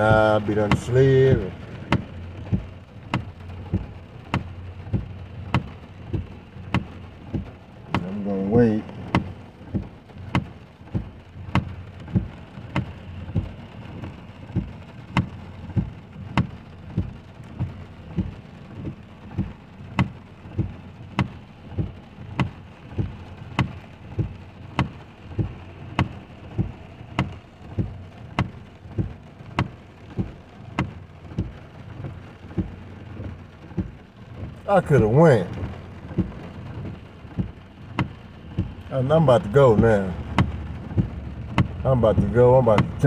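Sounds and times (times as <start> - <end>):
rain pattering on car: 0.0 - 43.0
turn signal relay ticking: 0.0 - 43.0.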